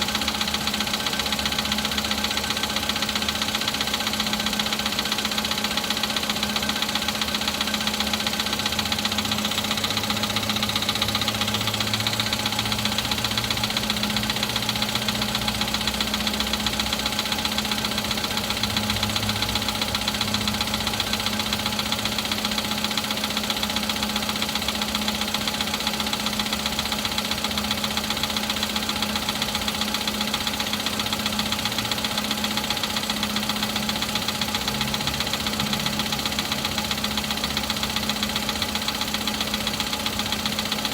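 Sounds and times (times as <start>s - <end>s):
car engine idling with rapid knock: 0.0s - 40.9s.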